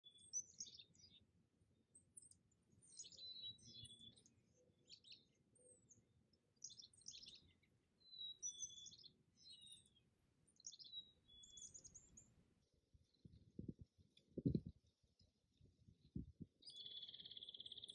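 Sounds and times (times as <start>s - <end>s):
small bird chirping: 0.0s - 1.3s, 2.0s - 6.0s, 6.6s - 12.3s, 12.9s - 17.9s.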